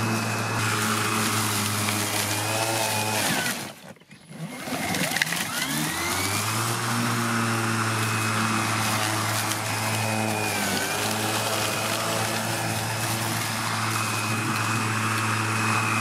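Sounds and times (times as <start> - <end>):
cordless lawn mower running: 0.0 - 16.0.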